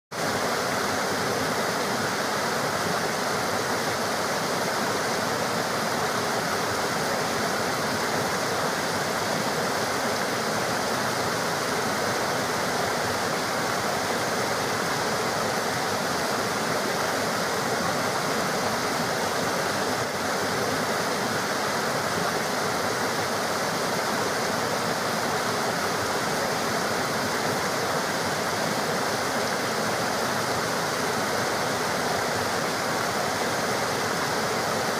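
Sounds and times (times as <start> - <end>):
river water rushing: 0.2 - 34.9.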